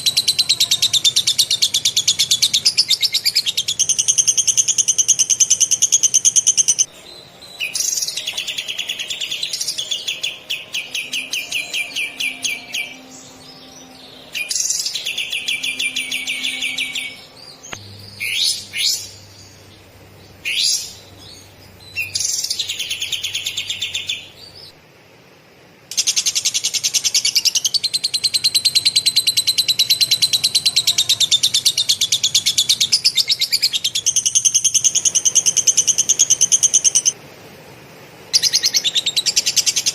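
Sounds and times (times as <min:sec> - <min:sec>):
songbird singing fast trills: 0:00.0 - 0:24.8, 0:25.9 - 0:37.2.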